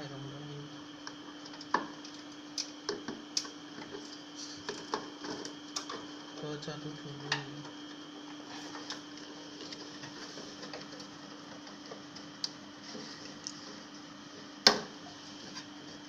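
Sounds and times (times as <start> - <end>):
computer fans humming: 0.0 - 16.0.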